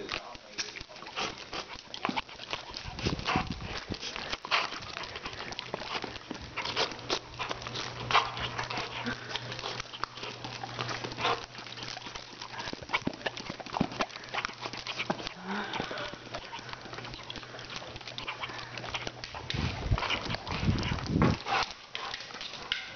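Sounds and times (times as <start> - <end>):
claws clicking on wooden floor: 0.0 - 22.9
dog jaws clacking: 0.0 - 22.9.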